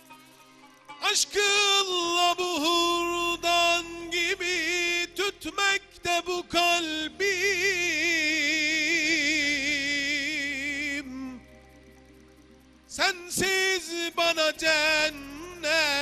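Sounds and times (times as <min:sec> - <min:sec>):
person singing a hymn: 0:01.0 - 0:11.6, 0:12.9 - 0:16.0.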